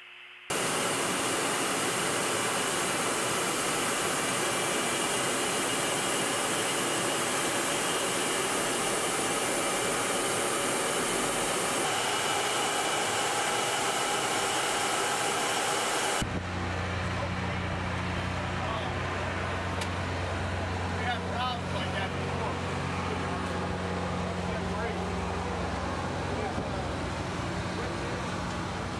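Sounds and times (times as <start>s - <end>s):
aircraft jet noise: 0.5s - 28.9s.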